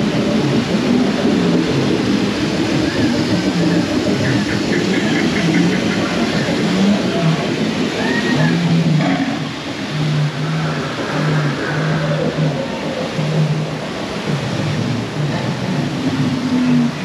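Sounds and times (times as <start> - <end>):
rushing churning water: 0.0 - 17.0.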